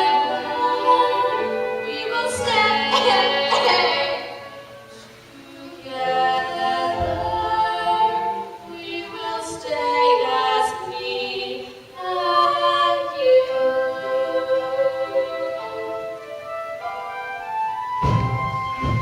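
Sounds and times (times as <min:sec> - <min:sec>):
chorus singing long notes: 0:00.3 - 0:16.0.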